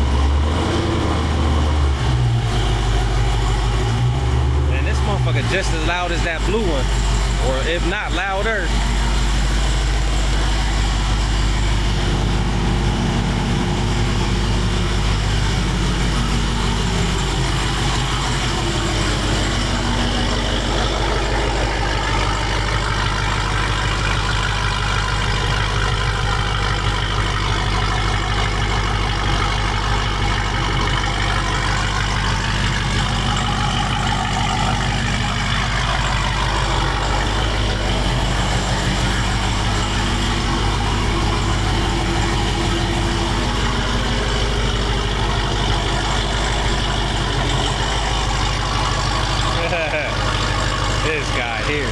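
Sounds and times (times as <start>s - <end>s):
car engine rumbling: 0.0s - 51.9s.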